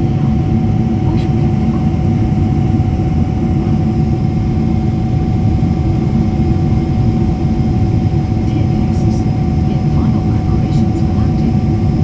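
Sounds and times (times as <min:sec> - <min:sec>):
rush of engines and airflow: 0:00.0 - 0:12.0.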